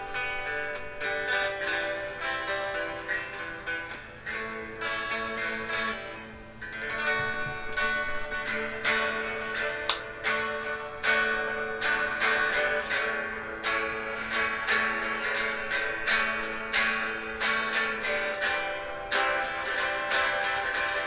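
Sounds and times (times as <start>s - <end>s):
guitar chords strummed: 0.0s - 21.0s.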